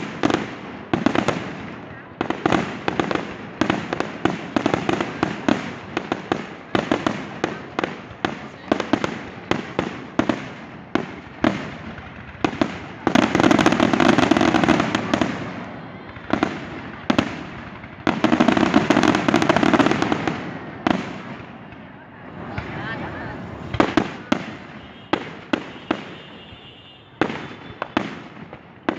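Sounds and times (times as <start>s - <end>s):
fireworks bangs: 0.0s - 28.9s
fireworks crackling: 0.0s - 28.9s.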